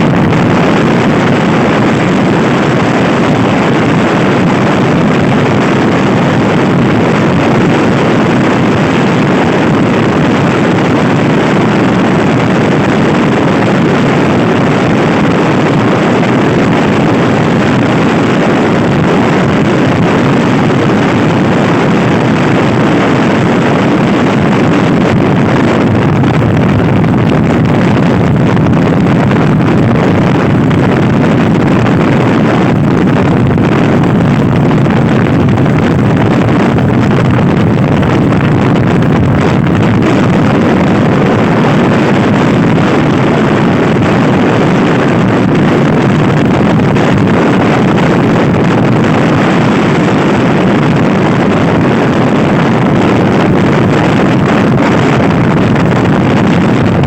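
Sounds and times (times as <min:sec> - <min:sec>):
wind noise on microphone: 0:00.0 - 0:57.0.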